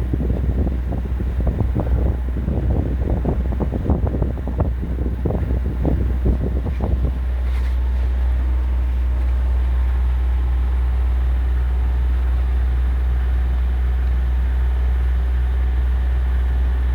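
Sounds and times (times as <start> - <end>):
boat engine droning: 0.0 - 16.9.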